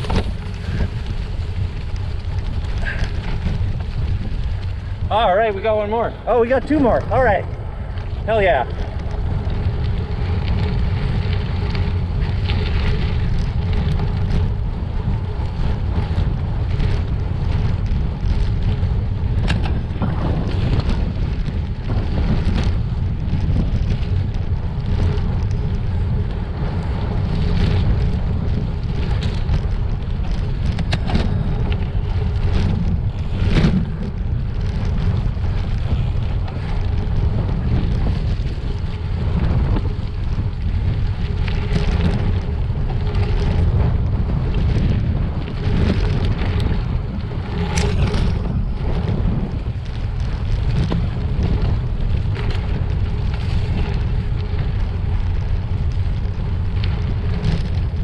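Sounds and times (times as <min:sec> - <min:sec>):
bike knocks and rattles: 0:00.0 - 0:05.2, 0:06.8 - 0:58.0
bike rolling over rocky trail: 0:00.0 - 0:58.0
wind buffeting microphone: 0:00.0 - 0:58.0.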